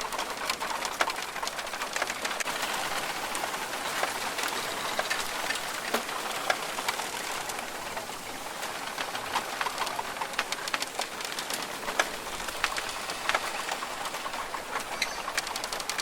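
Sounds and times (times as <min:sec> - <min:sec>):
rain dripping on foliage: 0:00.0 - 0:16.0.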